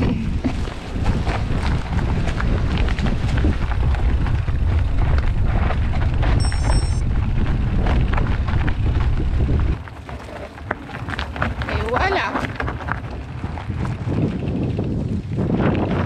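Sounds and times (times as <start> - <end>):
bike rattling on rocky trail: 0.0 - 16.0
wind rumbling on microphone: 0.0 - 16.0.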